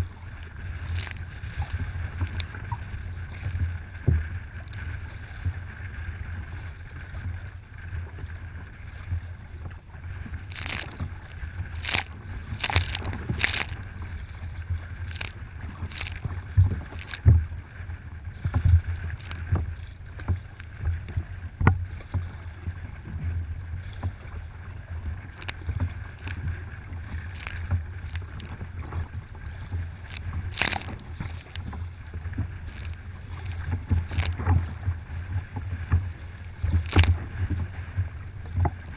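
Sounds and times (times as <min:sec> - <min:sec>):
waves splashing against kayak: 0:00.0 - 0:38.9
wind rumble on microphone: 0:00.0 - 0:38.9.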